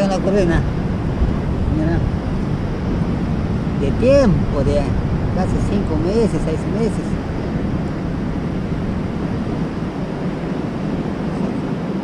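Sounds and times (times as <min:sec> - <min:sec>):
surf on rocky shore: 0:00.0 - 0:12.0
wind rumbling on microphone: 0:00.0 - 0:12.0.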